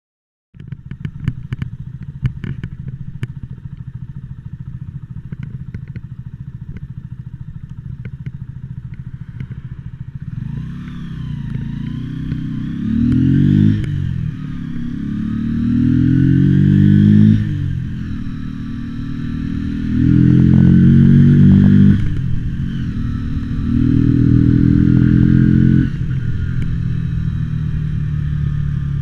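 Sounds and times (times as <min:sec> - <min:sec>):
motorcycle engine idling and revving: 0:00.6 - 0:29.0.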